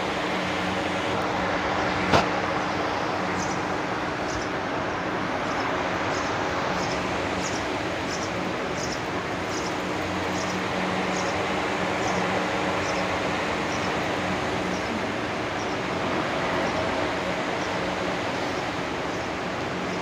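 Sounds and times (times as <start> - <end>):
ceiling fans whirring: 0.0 - 20.0
electrical hum and hiss: 0.0 - 20.0.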